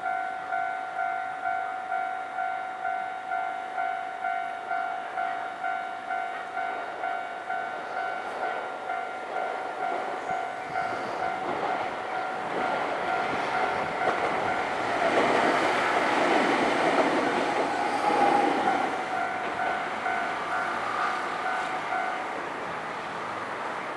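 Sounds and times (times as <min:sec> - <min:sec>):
train rumbling past: 0:01.4 - 0:23.9.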